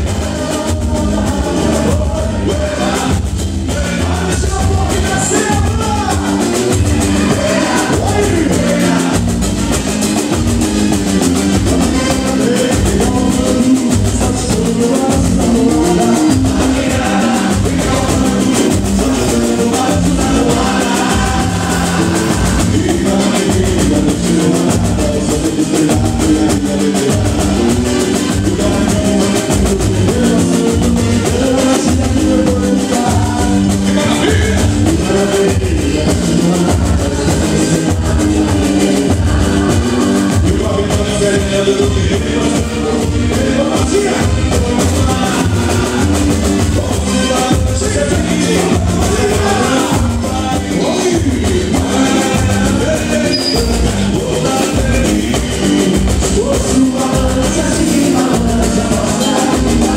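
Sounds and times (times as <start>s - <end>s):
bass drums: 0.0s - 59.9s
drum keeping steady beat: 0.0s - 59.9s
man singing into a microphone: 0.0s - 59.9s.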